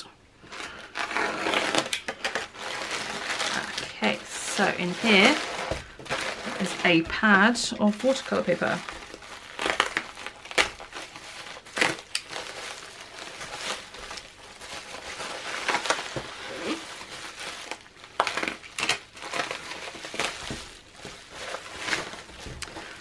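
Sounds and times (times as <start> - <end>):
bubble wrap crinkling: 0.0 - 23.0.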